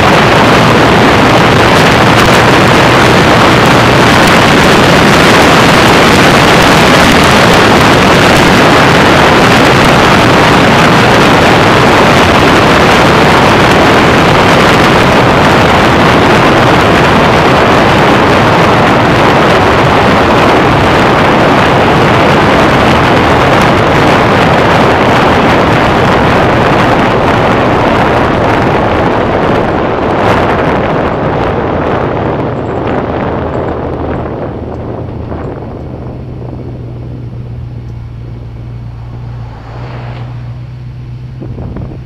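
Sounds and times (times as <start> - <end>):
car engine: 0.0 - 42.0
road noise: 0.0 - 42.0
wind rush over microphone: 0.0 - 42.0.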